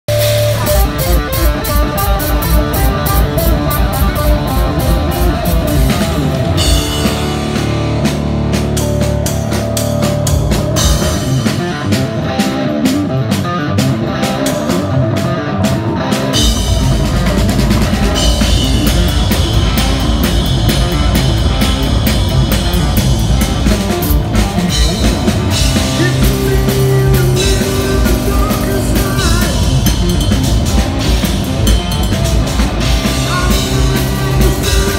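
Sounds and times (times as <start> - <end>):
bass guitar: 0.0 - 34.9
drum kit: 0.0 - 34.9
distorted electric guitar: 0.1 - 34.9.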